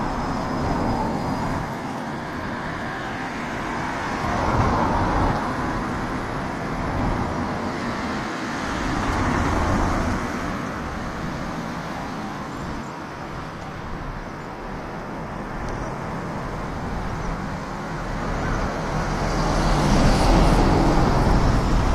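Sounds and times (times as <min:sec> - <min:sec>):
road traffic rush: 0:00.0 - 0:21.9.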